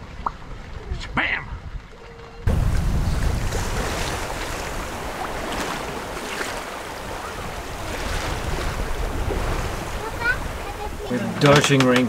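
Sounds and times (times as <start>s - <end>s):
water washing along hull: 0.0s - 12.0s
wind buffeting microphone: 0.0s - 12.0s.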